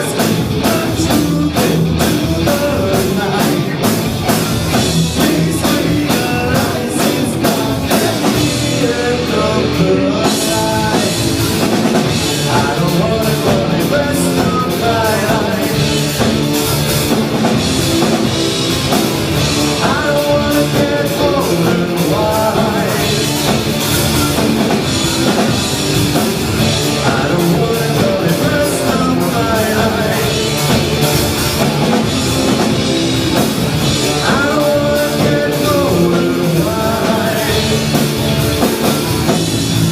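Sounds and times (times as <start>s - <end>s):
person singing: 0.0s - 4.0s, 4.6s - 16.8s, 19.4s - 25.6s, 26.6s - 32.0s, 33.8s - 38.7s
drum kit: 0.0s - 39.9s
rock band playing: 0.0s - 39.9s.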